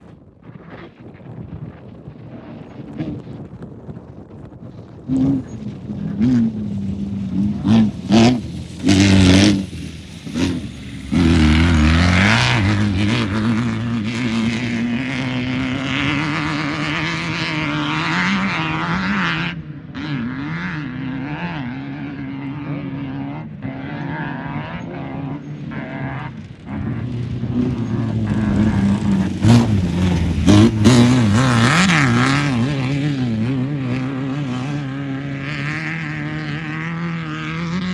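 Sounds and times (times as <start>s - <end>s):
race car engine revving: 4.9s - 37.9s.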